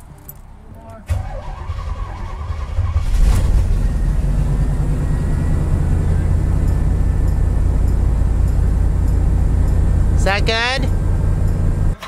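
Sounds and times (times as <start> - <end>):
motorhome engine starting and idling: 0.0 - 12.0.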